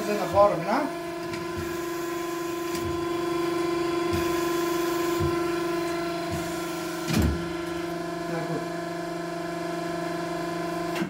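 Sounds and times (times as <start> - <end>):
honing machine motor hum: 0.0 - 10.9.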